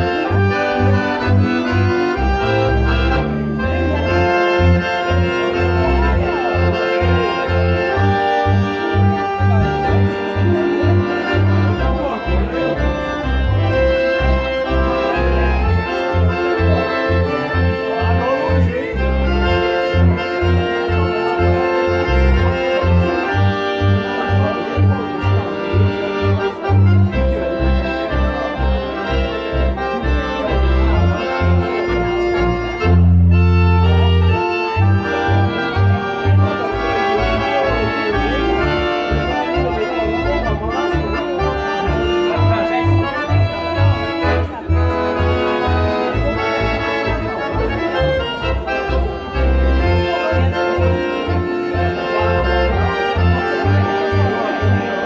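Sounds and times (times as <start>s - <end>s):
pulsing bass line: 0.0s - 54.9s
accordions playing melody: 0.0s - 55.0s.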